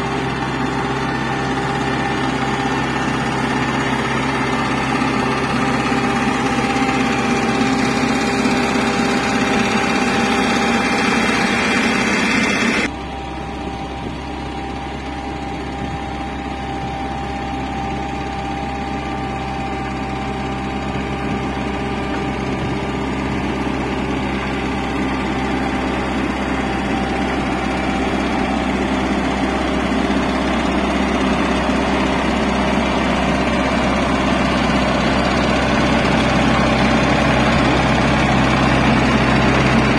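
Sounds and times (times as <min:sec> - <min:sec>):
paver engine running: 0:00.0 - 0:39.9.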